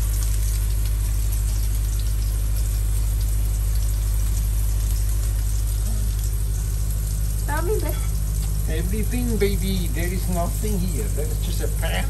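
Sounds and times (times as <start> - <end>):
food frying in a pan: 0.0 - 12.0
low pulsing motor hum: 0.0 - 12.0.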